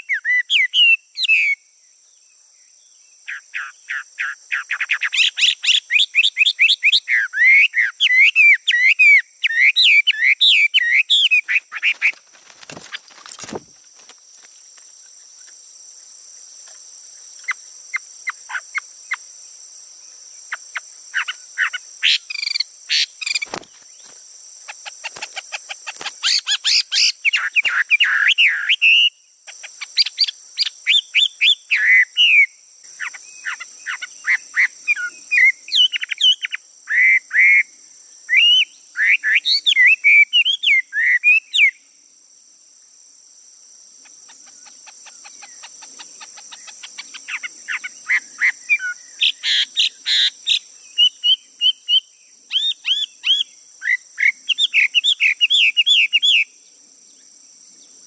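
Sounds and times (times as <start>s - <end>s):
songbird singing: 0.0s - 42.2s, 43.8s - 58.0s
high insect drone: 0.0s - 58.0s.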